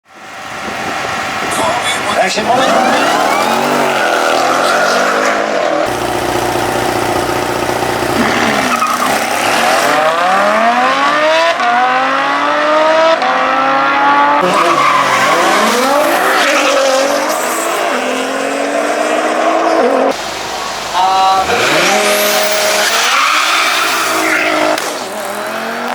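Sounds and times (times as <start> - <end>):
car engines revving: 0.1 - 25.9.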